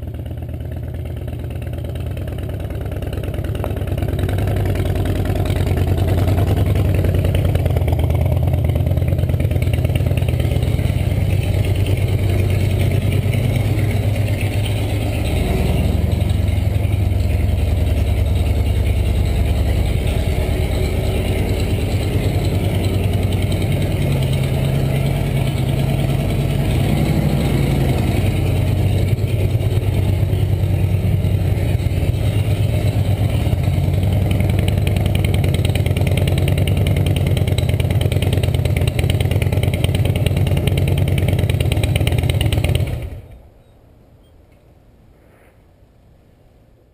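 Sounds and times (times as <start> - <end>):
motorcycle engine idling: 0.0 - 43.4.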